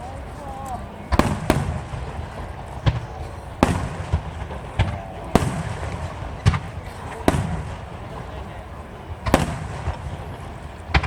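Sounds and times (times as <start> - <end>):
firework shells booming: 1.0 - 11.0.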